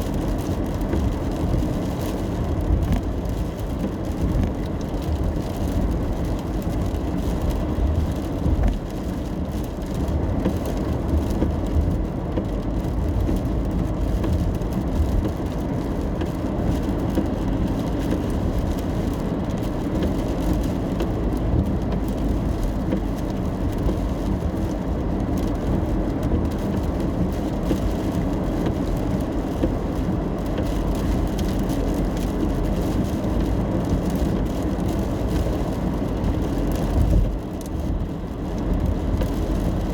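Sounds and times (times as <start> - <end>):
car road and engine noise: 0.0 - 39.9
rain on car body: 0.0 - 39.9.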